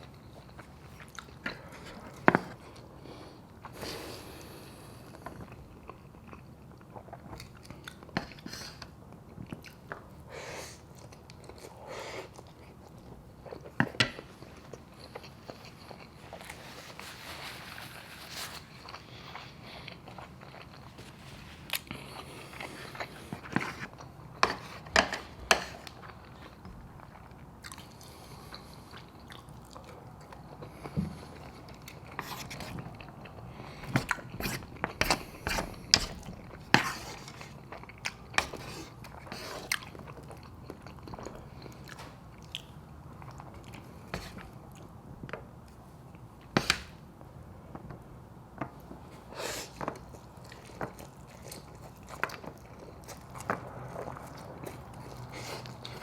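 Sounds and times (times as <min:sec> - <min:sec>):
chewing: 0:00.0 - 0:02.9, 0:03.6 - 0:44.9, 0:49.6 - 0:56.0.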